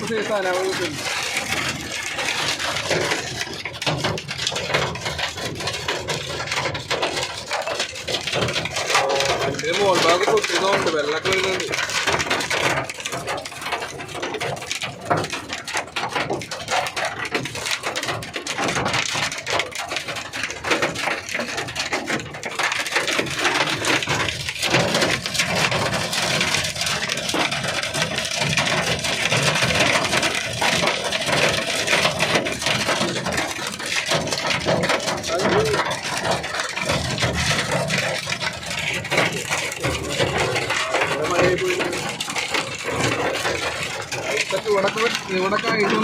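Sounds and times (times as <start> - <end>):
hail pelting vehicle roof: 0.0 - 46.0
rain: 0.0 - 46.0.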